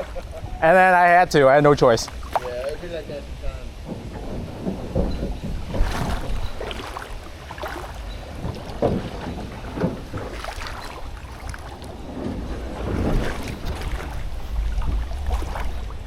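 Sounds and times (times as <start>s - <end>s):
water splashing against canoe hull: 0.0s - 16.0s
wind rumbling on microphone: 0.0s - 16.0s.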